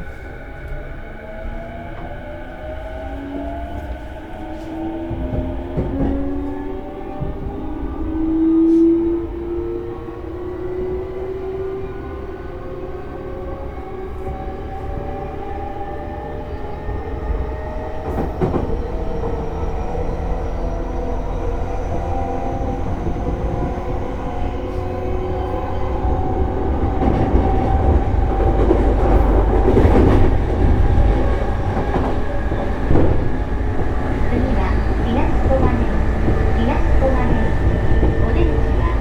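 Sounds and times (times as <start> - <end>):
train running noise: 0.0 - 39.0.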